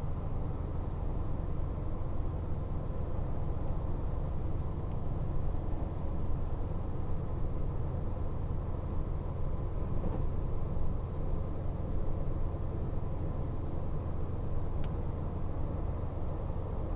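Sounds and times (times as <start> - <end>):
railcar low rumble: 0.0 - 16.9.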